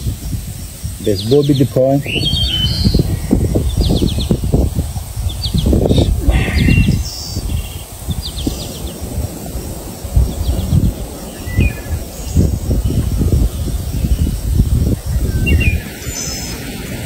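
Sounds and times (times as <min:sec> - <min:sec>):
birds chirping: 0:00.0 - 0:17.0
low rumbling noise: 0:02.0 - 0:16.9.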